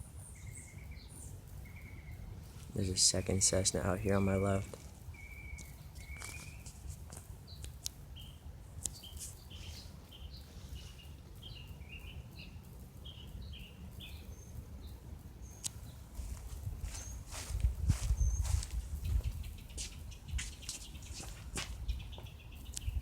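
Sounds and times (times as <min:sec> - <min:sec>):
faint low rumble: 0:00.0 - 0:23.0
small birds chirping: 0:00.0 - 0:23.0.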